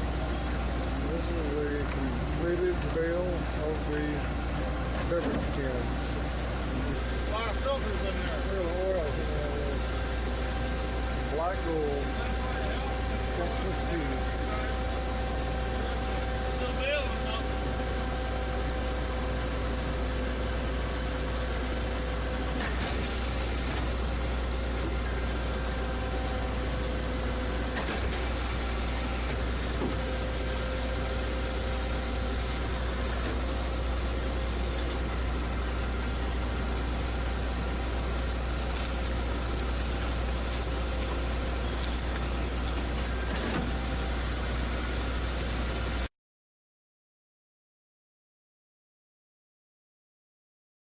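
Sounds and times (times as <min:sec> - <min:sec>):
heavy machinery humming: 0:00.0 - 0:46.1.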